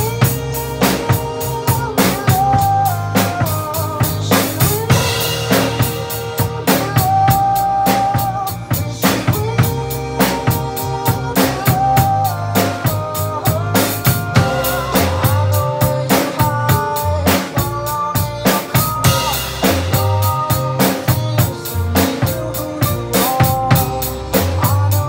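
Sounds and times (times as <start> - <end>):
drum kit beat: 0.0 - 25.0
recorded song with melody: 0.0 - 25.0.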